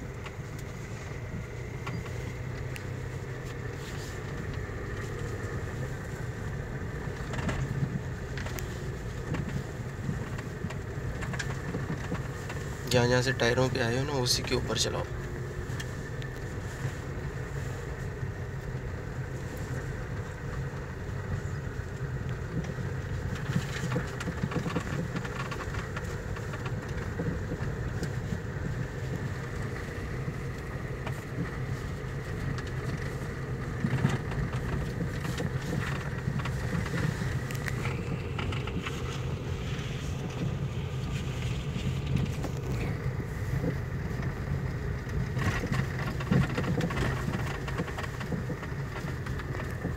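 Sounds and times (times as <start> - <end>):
car engine humming: 0.0 - 49.9
tyres rolling over dirt: 0.0 - 49.9.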